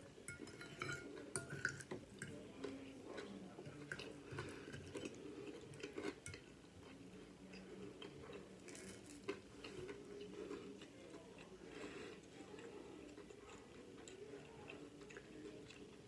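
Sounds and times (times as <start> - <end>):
chewing crispy food: 1.2 - 16.0.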